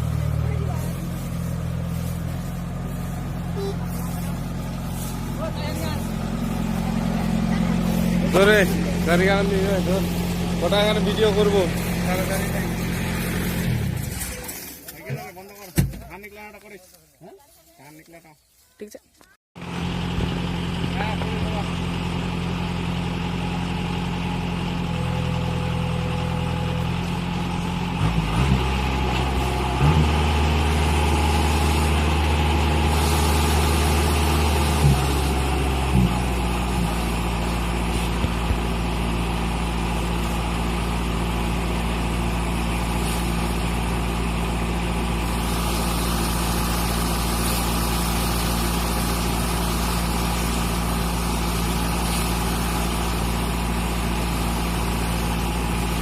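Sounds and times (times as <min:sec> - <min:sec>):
diesel engine running: 0:00.0 - 0:16.5, 0:19.6 - 0:56.0.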